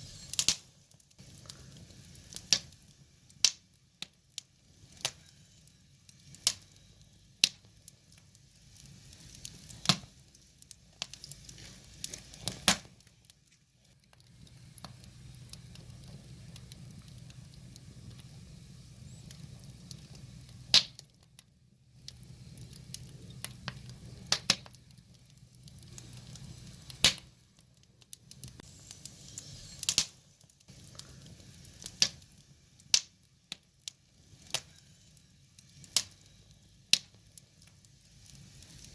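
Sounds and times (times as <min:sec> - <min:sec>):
hiss of flames: 0:00.0 - 0:38.9
wood fire pops and crackles: 0:00.0 - 0:38.9.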